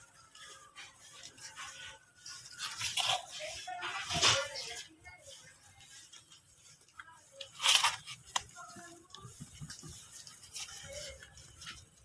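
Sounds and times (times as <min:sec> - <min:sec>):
rustling against cardboard: 0:00.0 - 0:12.0.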